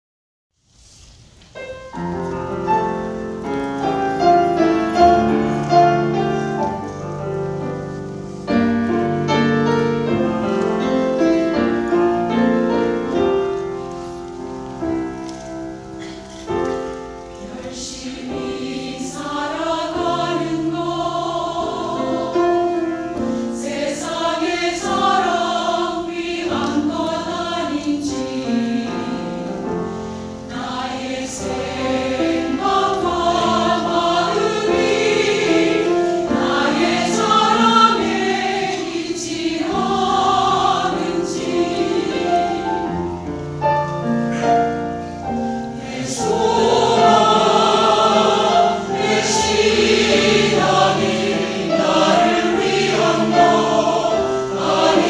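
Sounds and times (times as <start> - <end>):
keyboard accompaniment: 1.6 - 55.0
church choir singing: 2.2 - 55.0.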